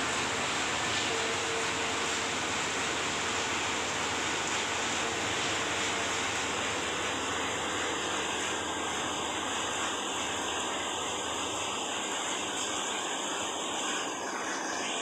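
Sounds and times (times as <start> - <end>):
concrete pump machinery drone: 0.0 - 15.0.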